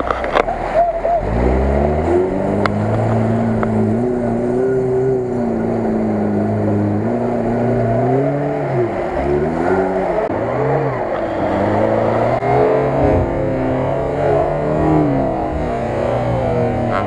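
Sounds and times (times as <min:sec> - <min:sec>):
car engine revving in mud: 0:00.0 - 0:17.0.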